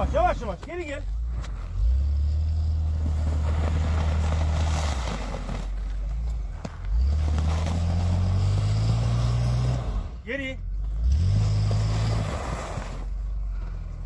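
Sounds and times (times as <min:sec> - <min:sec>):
engine revving under load: 0:01.2 - 0:14.0.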